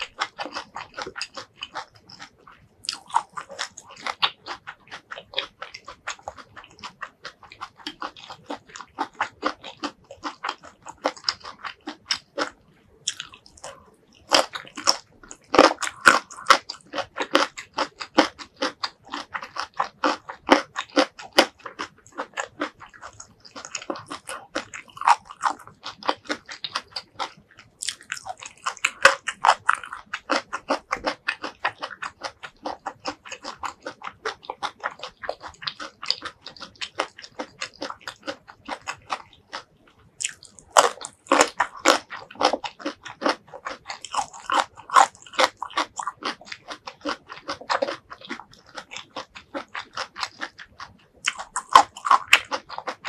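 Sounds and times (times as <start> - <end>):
chewing and crunching: 0.0 - 53.0.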